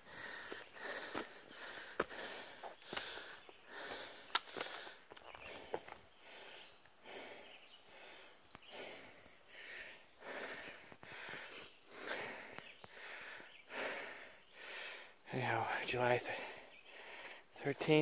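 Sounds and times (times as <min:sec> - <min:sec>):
person breathing hard: 0:00.0 - 0:15.2, 0:16.3 - 0:17.5.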